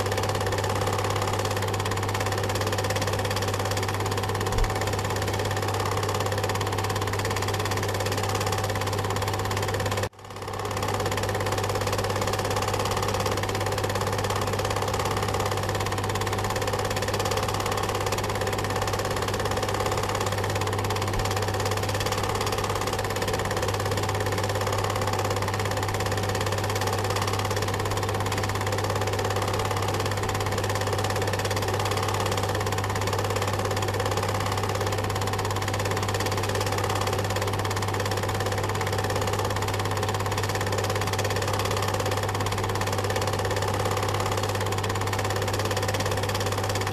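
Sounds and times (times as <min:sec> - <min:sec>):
film projector whirring: 0:00.0 - 0:46.9.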